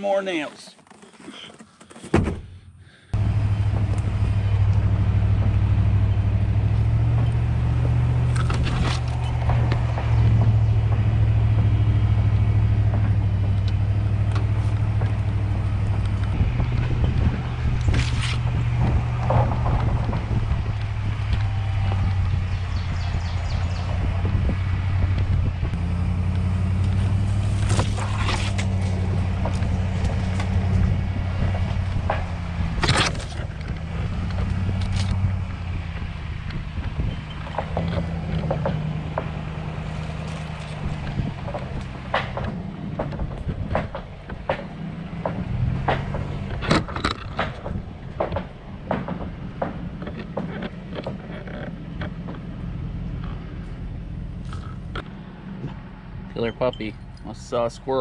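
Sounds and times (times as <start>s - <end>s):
branches scraping truck: 0.0s - 58.0s
truck engine running: 2.5s - 58.0s.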